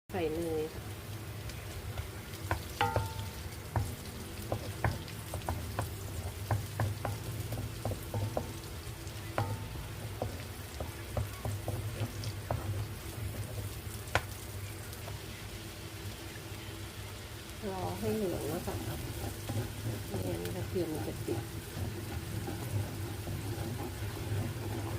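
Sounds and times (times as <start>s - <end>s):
garlic sizzling in a pan: 0.1s - 24.9s
spatula tapping and scraping pan: 1.5s - 15.2s, 18.0s - 24.9s.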